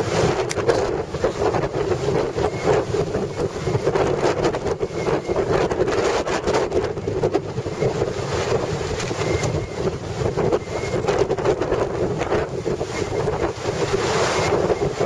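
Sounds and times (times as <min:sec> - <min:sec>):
strong wind gusting: 0:00.0 - 0:15.0
wind thumping microphone: 0:00.0 - 0:15.0.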